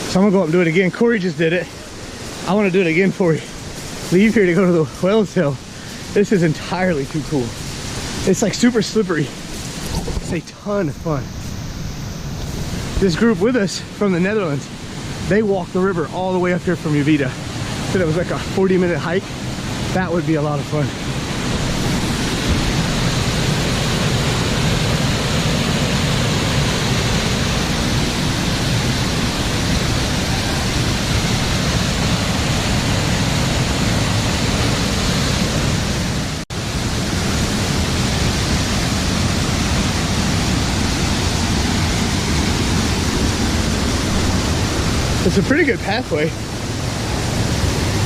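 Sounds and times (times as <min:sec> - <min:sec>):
waterfall roaring: 0:00.0 - 0:48.0.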